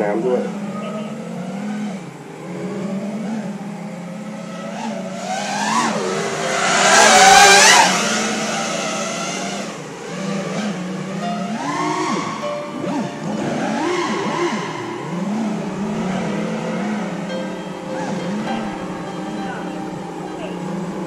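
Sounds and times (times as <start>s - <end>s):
drone motors whining: 0.4s - 21.0s.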